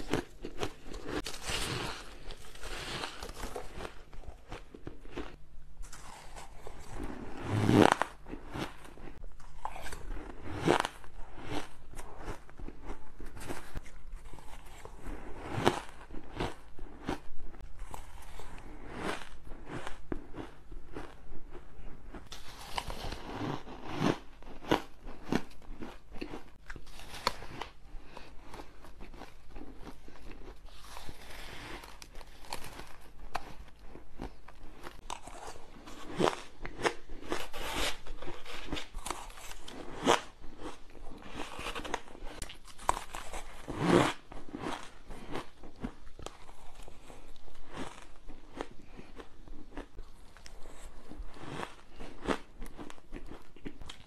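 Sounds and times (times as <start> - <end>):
shaved ice crunched and chewed: 0.0 - 54.0.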